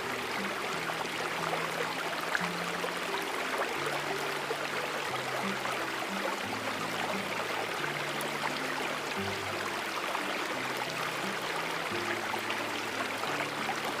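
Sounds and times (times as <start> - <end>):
soft low music notes: 0.0 - 14.0
stream rushing: 0.0 - 14.0.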